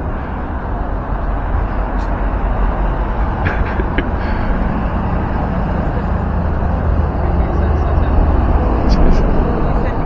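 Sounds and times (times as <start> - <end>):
city road traffic rumble: 0.0 - 10.0.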